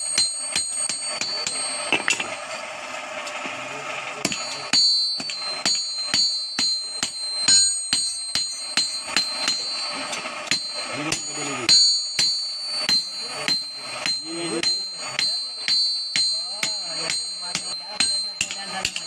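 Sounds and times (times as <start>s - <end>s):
hammer striking metal on anvil: 0.0s - 2.6s, 4.2s - 19.0s.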